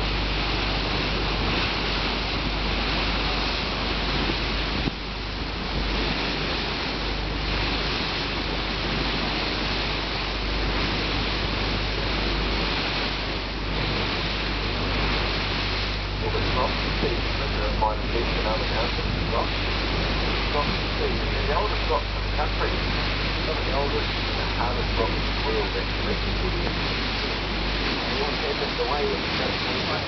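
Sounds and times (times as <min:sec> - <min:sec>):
boat engine drone: 0:00.0 - 0:30.0
water rushing past boat: 0:00.0 - 0:30.0.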